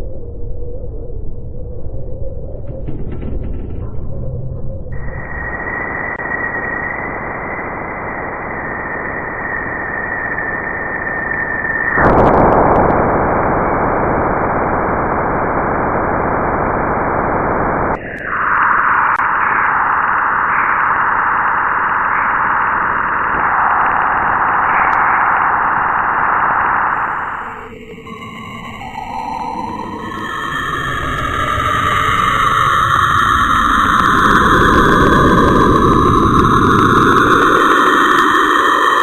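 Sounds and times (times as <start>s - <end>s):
dense electronic hiss: 5.0s - 39.0s.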